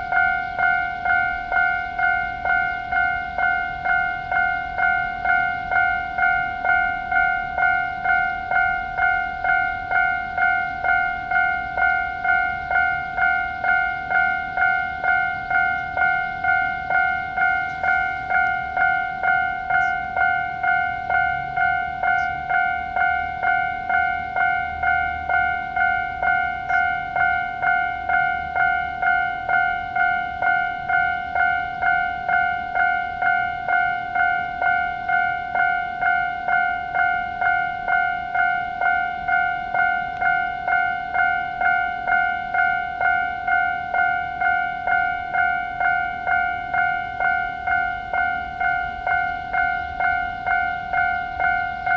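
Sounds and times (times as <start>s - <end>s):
electronic level crossing alarm: 0.0s - 51.9s.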